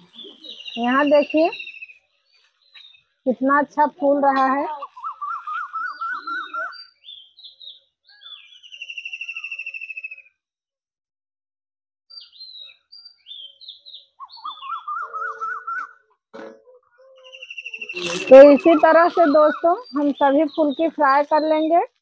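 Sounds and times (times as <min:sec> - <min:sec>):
birds chirping and singing: 0:00.0 - 0:10.3, 0:12.1 - 0:21.9.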